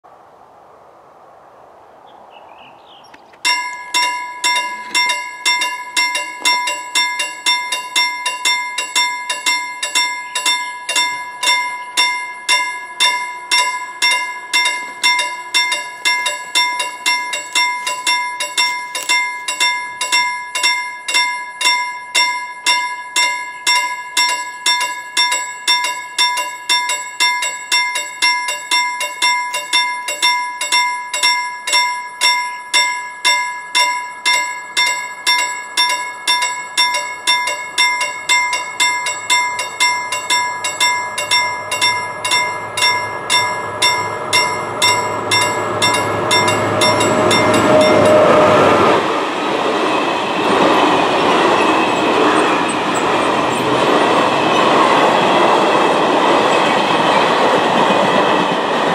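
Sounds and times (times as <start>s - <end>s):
level crossing warning bell: 3.4s - 58.9s.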